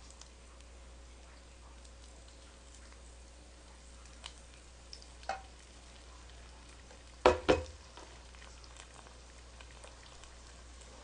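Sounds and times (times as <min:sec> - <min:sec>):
faint oil sizzle: 0:00.0 - 0:11.0.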